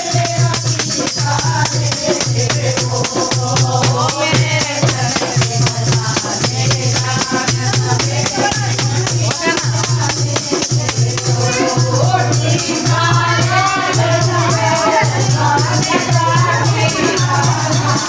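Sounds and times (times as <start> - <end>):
jingling hand percussion: 0.0 - 18.0
voices singing devotional music: 0.0 - 18.0.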